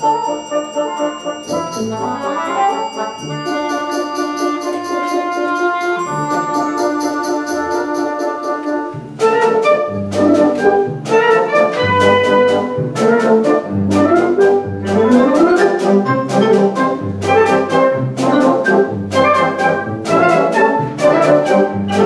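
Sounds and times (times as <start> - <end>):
concert band playing: 0.0 - 22.0.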